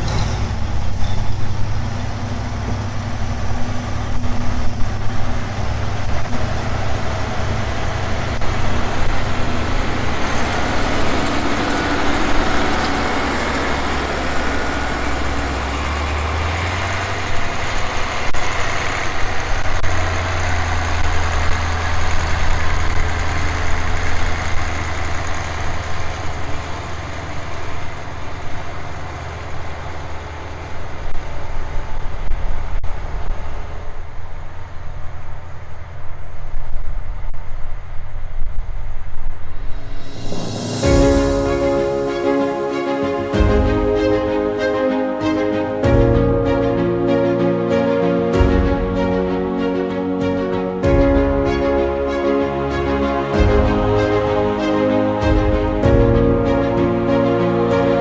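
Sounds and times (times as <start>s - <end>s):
tractor engine running: 0.0s - 32.0s, 40.0s - 58.0s.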